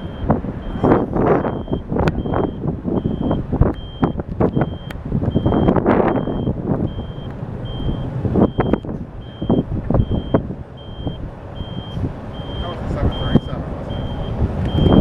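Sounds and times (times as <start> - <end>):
high electronic beeps: 0.0 - 15.0
wind buffeting microphone: 0.0 - 15.0.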